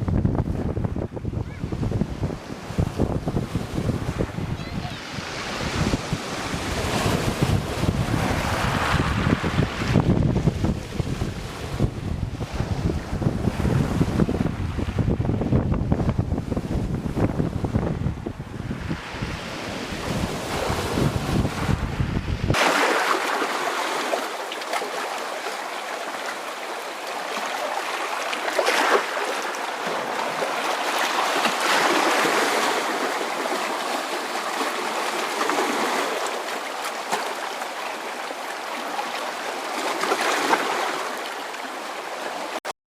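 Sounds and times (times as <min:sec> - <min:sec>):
surf washing onto stony shore: 0:01.4 - 0:42.6.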